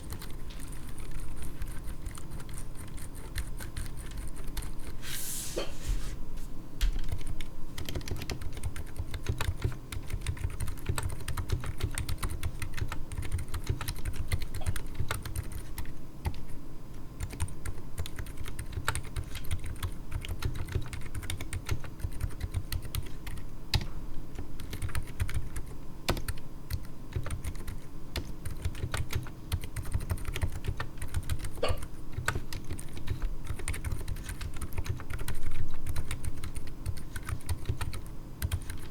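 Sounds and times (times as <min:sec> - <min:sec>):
mechanical keyboard typing: 0:00.0 - 0:04.9, 0:07.0 - 0:16.4, 0:17.2 - 0:23.8, 0:24.6 - 0:38.9.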